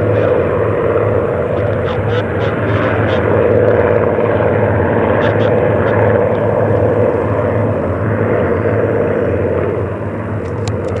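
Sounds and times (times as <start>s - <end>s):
propeller planes droning overhead: 0.0s - 11.0s.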